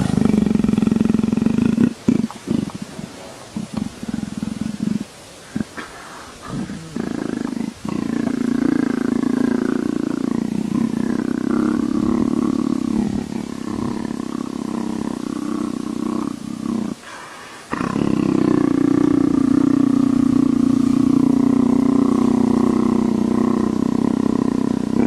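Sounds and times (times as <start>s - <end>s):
leopard purring: 0.0s - 25.0s.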